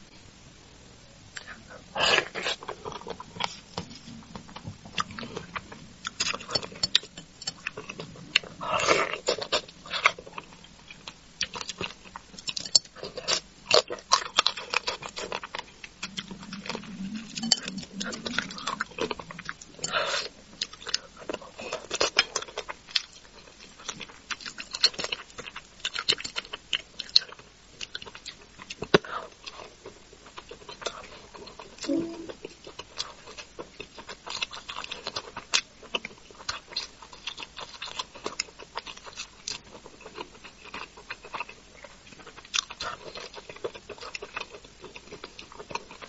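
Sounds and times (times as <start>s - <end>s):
chewing and lip-smacking: 1.4s - 46.0s.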